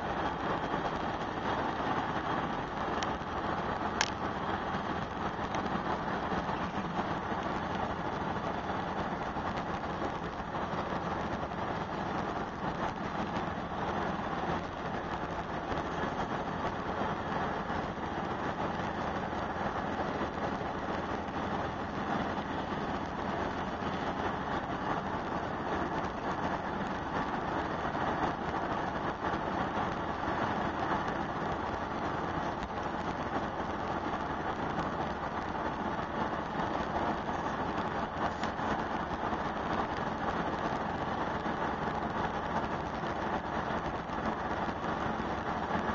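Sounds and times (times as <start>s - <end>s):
tyres on road: 0.0s - 45.9s
wind rushing past car: 0.0s - 45.9s.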